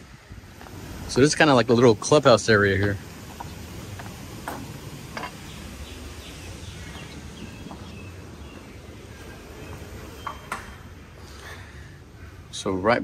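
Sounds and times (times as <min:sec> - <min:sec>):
small birds chirping: 0:00.0 - 0:12.8
steady low background noise: 0:00.0 - 0:13.0.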